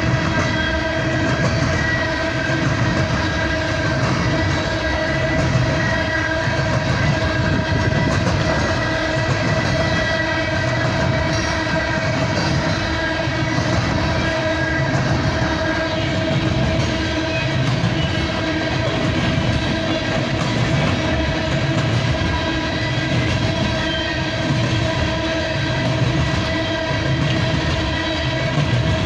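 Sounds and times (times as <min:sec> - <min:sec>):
hopper cars rumbling on rails: 0:00.0 - 0:29.0.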